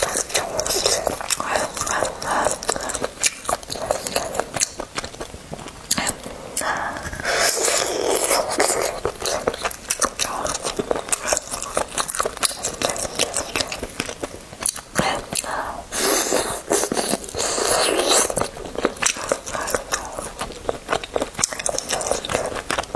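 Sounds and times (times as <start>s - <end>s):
wet chewing and mouth clicks: 0.0s - 22.9s.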